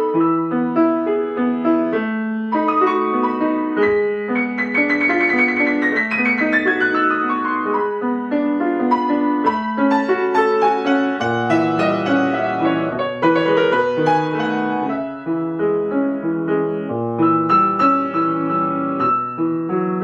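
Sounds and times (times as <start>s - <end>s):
classical piano piece: 0.0s - 20.0s.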